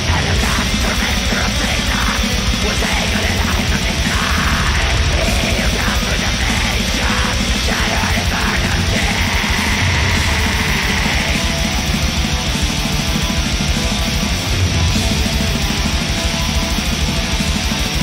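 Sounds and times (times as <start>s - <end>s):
black metal music: 0.0s - 18.0s.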